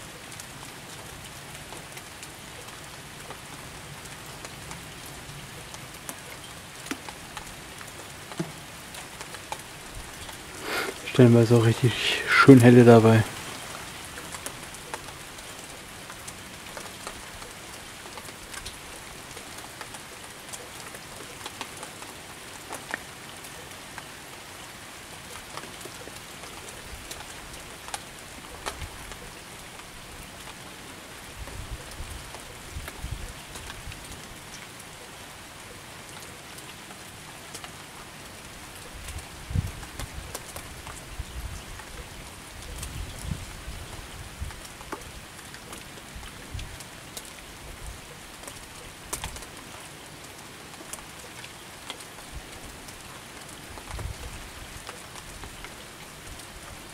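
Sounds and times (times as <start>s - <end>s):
steady rain: 0.0s - 56.9s
raindrops ticking: 0.1s - 56.9s.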